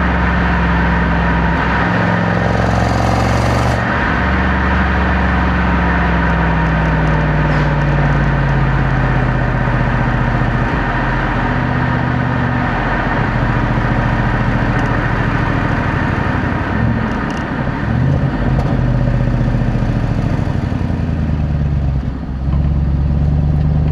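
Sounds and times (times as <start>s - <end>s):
car engine running at low speed: 0.0s - 23.9s.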